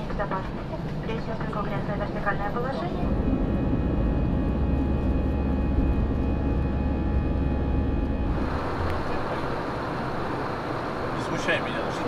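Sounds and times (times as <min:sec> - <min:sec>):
jet engine rumble and whine: 0:00.0 - 0:12.0.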